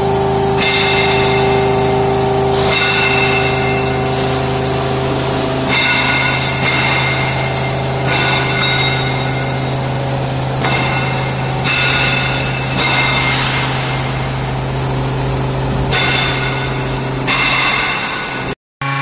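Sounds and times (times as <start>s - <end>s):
high-pitched metal-cutting whine: 0.0s - 19.0s
low machine hum: 0.0s - 19.0s.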